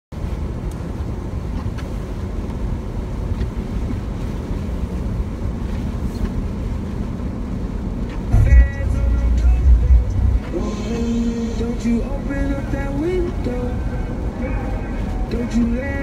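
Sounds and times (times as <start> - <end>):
car cabin driving rumble: 0.1 - 16.0.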